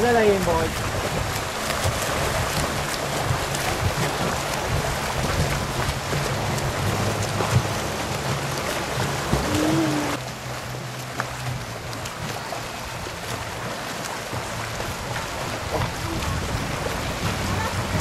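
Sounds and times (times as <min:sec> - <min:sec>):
swimmers splashing water: 0:00.0 - 0:18.0.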